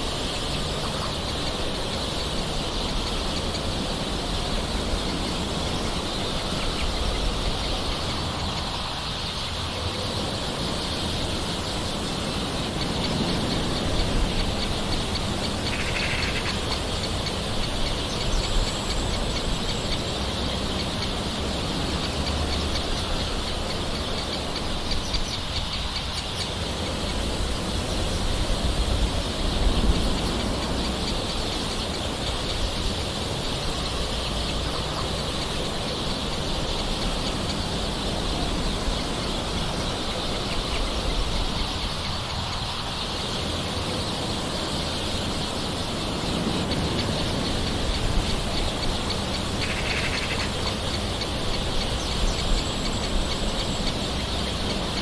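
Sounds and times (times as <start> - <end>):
bird calls: 0.0 - 55.0.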